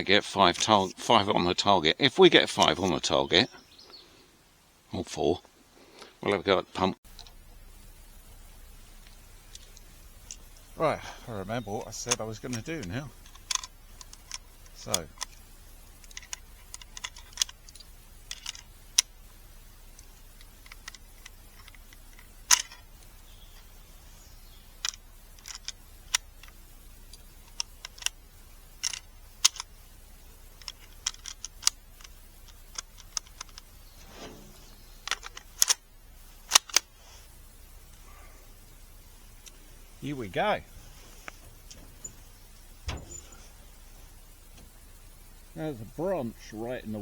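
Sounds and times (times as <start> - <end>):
sharp clicks and light taps: 7.1 - 46.2
soft rustle: 7.2 - 46.5.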